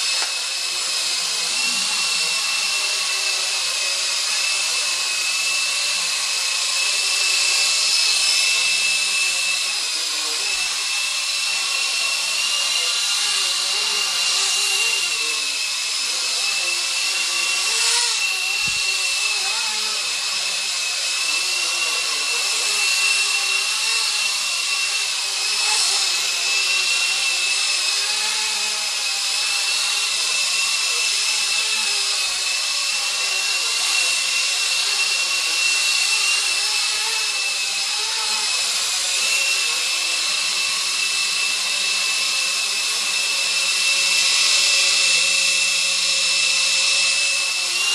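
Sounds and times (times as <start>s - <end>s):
rc helicopter motor whine: 0.0s - 47.9s.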